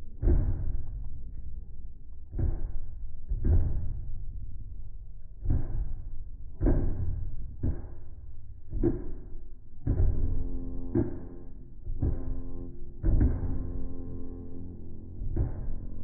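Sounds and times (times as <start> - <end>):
large drums struck slowly: 0.0 - 16.0.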